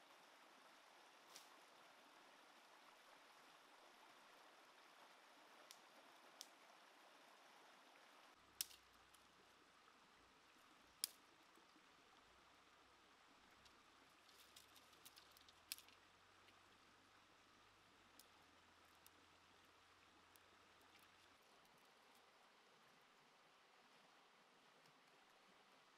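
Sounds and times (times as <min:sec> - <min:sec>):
faint outdoor hiss: 0:00.0 - 0:25.9.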